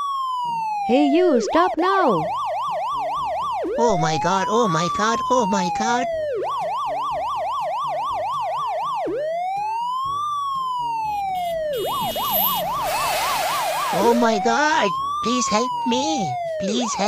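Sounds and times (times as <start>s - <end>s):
electronic police siren: 0.0s - 17.0s.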